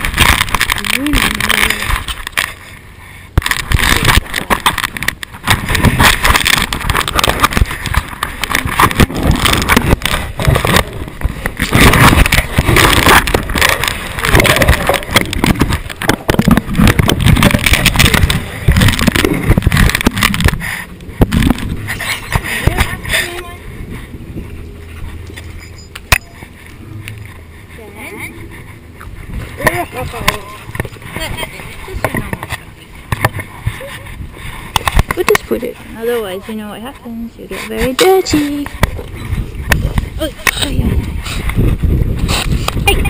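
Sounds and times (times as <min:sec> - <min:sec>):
camera rumbling and knocking: 0:00.0 - 0:43.0.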